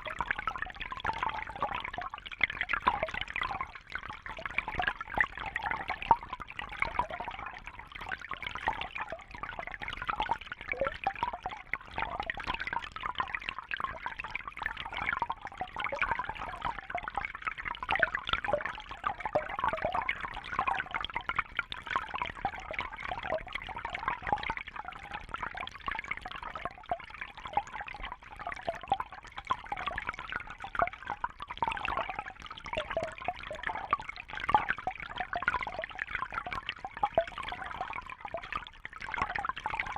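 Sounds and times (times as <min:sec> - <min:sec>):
trickling bubbling water: 0:00.0 - 0:39.9.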